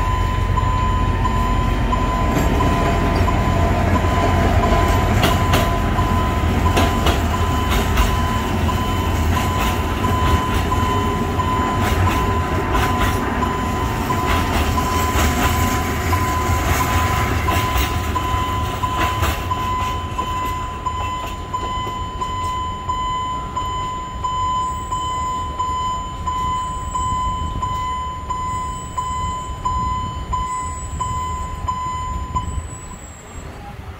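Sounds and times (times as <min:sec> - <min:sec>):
crossing warning signal ringing: 0:00.0 - 0:33.9
train rumbling and clattering: 0:00.0 - 0:33.9.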